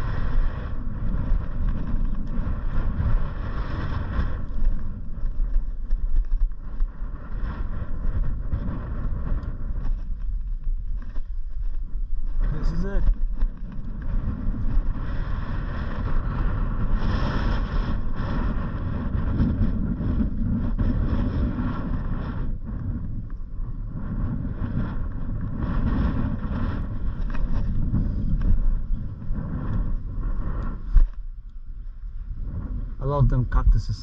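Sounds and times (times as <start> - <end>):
vehicle engine and road rumble: 0.0 - 34.0
wind buffeting microphone: 0.0 - 34.0.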